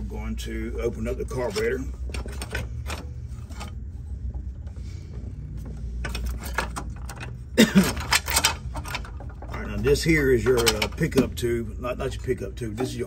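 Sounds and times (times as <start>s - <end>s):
steady low hum: 0.0s - 13.0s
metal parts clicking and rattling: 1.3s - 11.4s, 12.0s - 13.0s.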